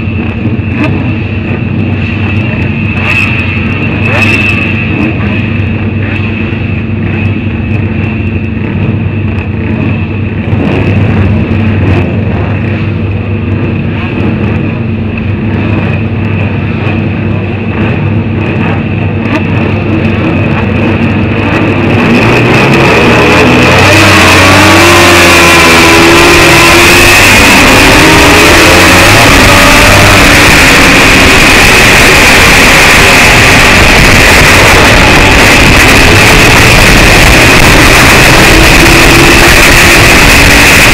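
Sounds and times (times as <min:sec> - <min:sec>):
motorcycle engines revving: 0:00.0 - 0:40.9
wind rush on camera: 0:00.0 - 0:40.9.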